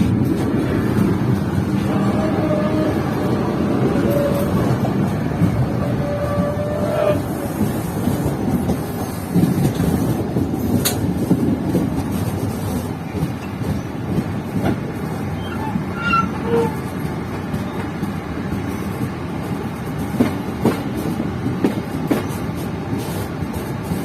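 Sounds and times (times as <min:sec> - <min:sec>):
passenger train rumbling: 0:00.0 - 0:24.0.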